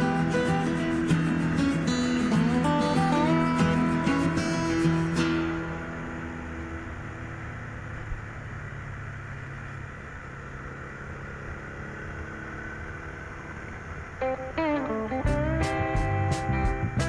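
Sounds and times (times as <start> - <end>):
vehicle engine running: 0.0 - 17.0
wind and road noise: 0.0 - 17.0.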